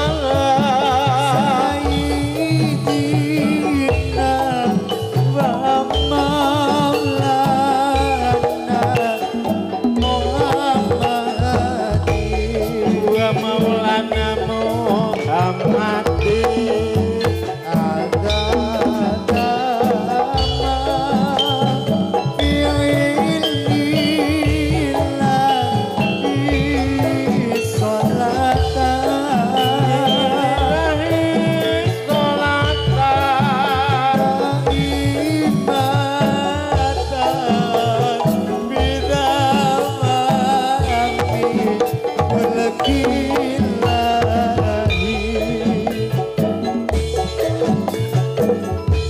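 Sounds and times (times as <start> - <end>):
drum beats: 0.0 - 49.0
gamelan music over sound system: 0.0 - 49.0
person singing with vibrato: 0.0 - 49.0
pitched instruments: 0.0 - 49.0.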